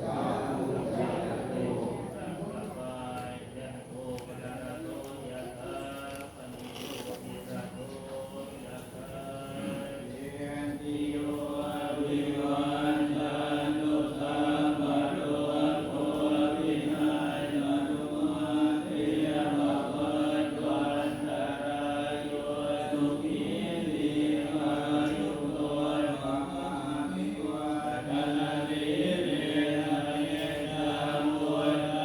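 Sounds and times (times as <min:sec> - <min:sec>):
monks chanting in unison: 0:00.0 - 0:32.0.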